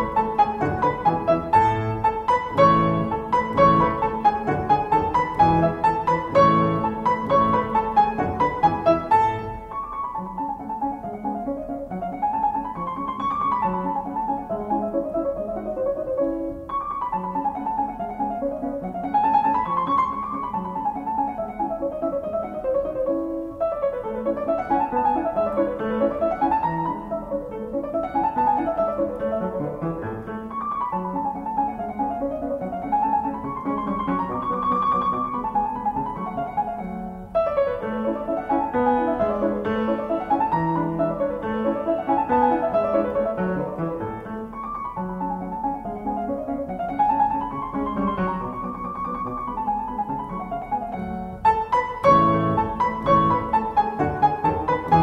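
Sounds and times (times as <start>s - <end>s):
piano music: 0.0s - 55.0s.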